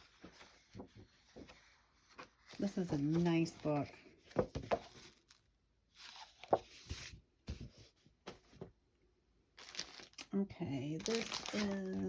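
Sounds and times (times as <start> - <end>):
book pages rustling: 0.0 - 8.7, 11.0 - 12.0.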